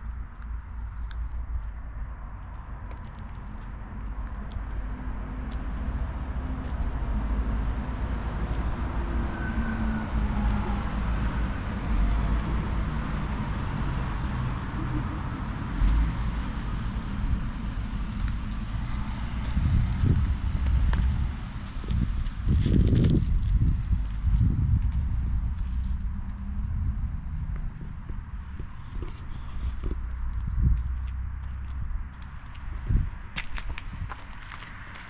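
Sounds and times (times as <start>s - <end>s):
vehicle engine and tyres rumbling: 0.0s - 35.0s.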